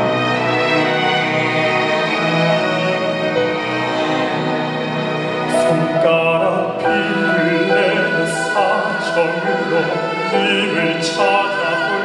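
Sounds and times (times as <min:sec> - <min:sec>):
instrumental backing track: 0:00.0 - 0:12.0.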